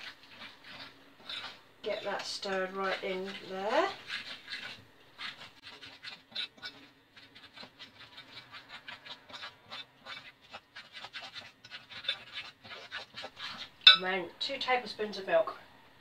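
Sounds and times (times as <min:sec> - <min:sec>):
spoon stirring thick batter: 0:00.0 - 0:15.1.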